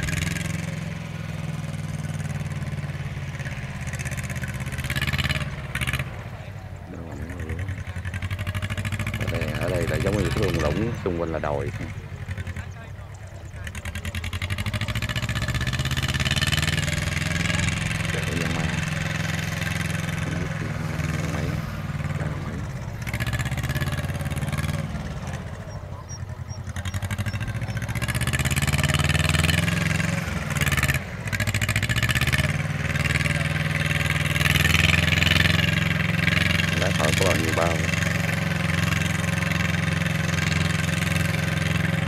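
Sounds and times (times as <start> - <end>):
diesel tractor engine running: 0.0 - 42.0.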